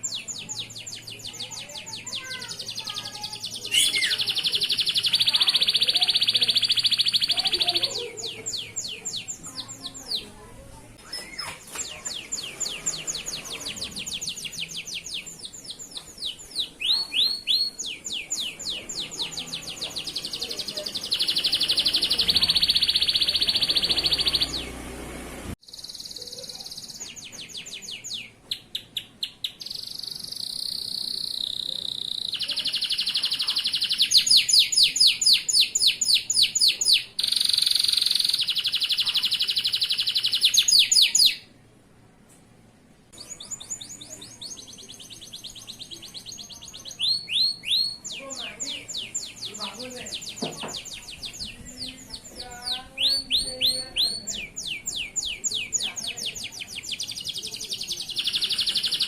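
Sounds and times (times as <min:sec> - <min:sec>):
canary singing trills: 0:00.0 - 0:41.6, 0:43.1 - 0:59.0.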